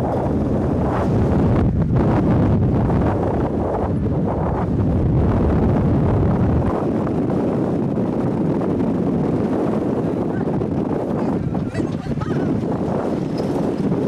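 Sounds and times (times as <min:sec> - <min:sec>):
roller coaster rumbling on track: 0:00.0 - 0:14.0
wind buffeting microphone: 0:00.0 - 0:14.0.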